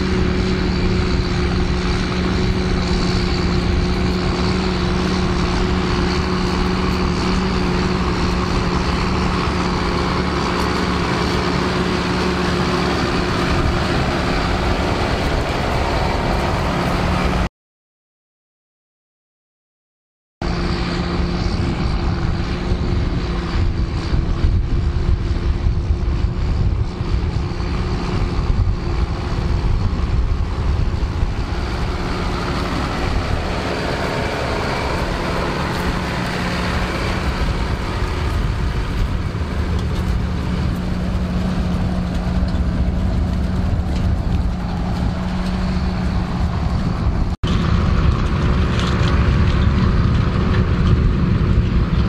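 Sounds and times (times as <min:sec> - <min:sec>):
tractor diesel engine under load: 0:00.0 - 0:17.5, 0:20.4 - 0:52.0.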